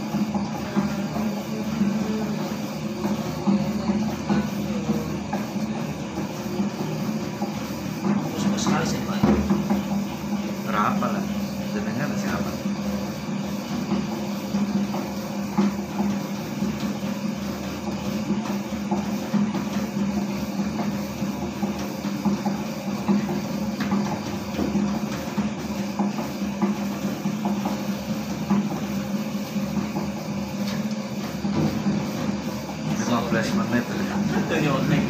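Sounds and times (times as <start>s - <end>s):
dough mixer humming: 0.0s - 35.0s.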